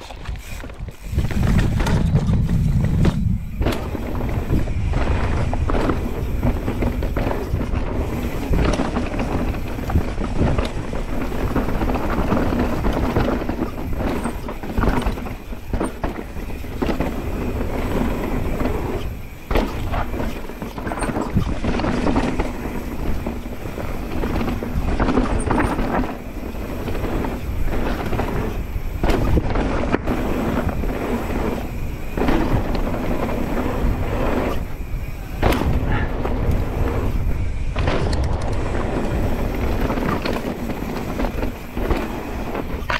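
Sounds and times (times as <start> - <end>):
bike rattling and knocking: 0.0 - 42.9
bike tyres on dirt: 0.0 - 42.9
wind rushing over microphone: 0.0 - 42.9.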